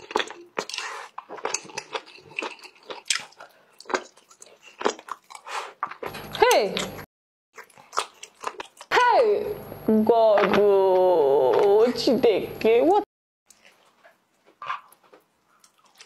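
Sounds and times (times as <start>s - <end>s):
biting and chewing food: 0.0s - 9.0s, 10.3s - 12.1s, 13.4s - 16.0s.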